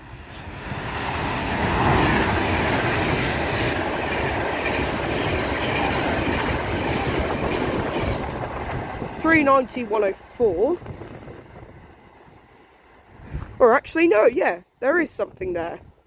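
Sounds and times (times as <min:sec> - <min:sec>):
electric train passing at speed: 0:00.0 - 0:16.0.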